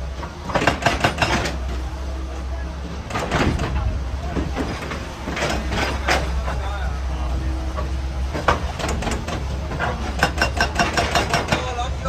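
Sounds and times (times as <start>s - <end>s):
excavator diesel engine rumble: 0.0s - 12.0s.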